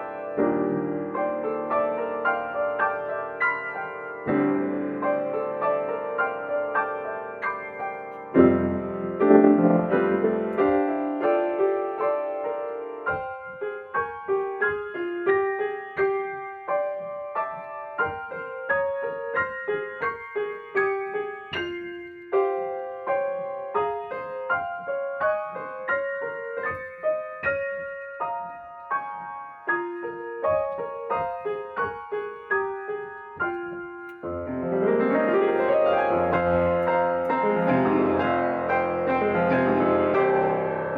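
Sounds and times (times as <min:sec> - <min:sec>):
slow ambient piano piece: 0:00.0 - 0:40.9.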